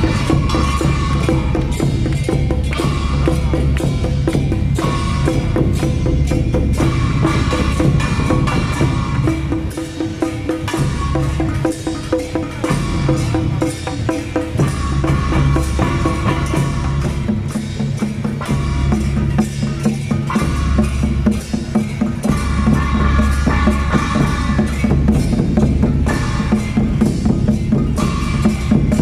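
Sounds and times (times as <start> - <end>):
gongs and cymbals: 0.0 - 29.0.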